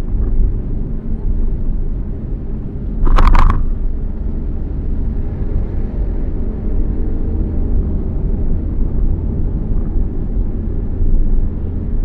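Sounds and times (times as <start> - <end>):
car rumble while moving: 0.0 - 12.0.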